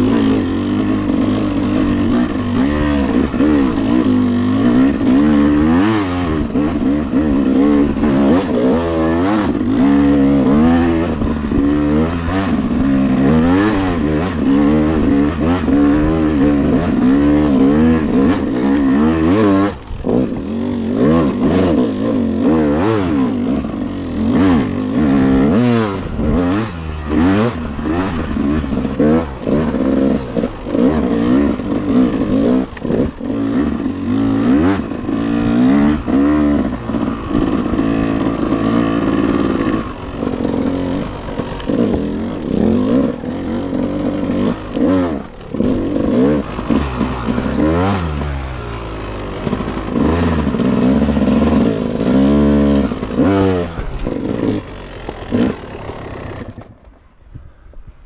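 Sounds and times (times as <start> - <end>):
motorcycle engine revving: 0.0 - 57.6.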